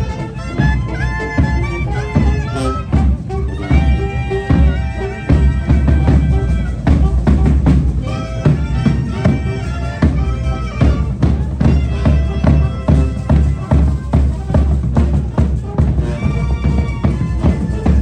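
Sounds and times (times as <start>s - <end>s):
brass band music: 0.0s - 18.0s
steady bass drum beat: 0.0s - 18.0s.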